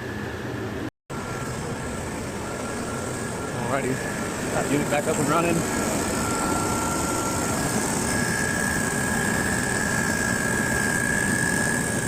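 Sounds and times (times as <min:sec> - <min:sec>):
hvac fan running: 0:00.0 - 0:12.0
steady whine: 0:00.0 - 0:12.0.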